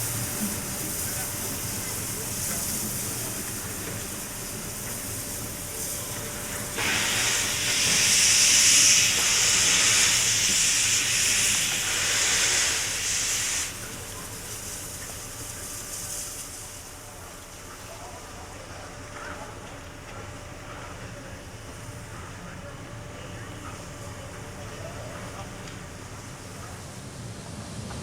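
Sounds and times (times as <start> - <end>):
steam locomotive hissing steam: 0.0 - 28.0.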